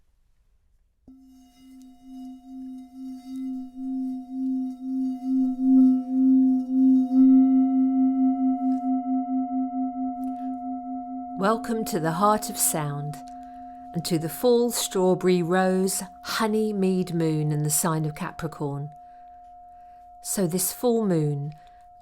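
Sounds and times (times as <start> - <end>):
singing bowl ringing: 1.1 - 22.0.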